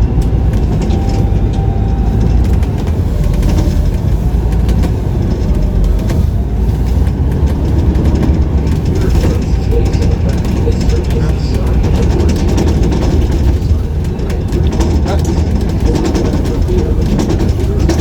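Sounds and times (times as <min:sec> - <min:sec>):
bus engine and road rumble: 0:00.0 - 0:18.0
city traffic: 0:00.0 - 0:18.0.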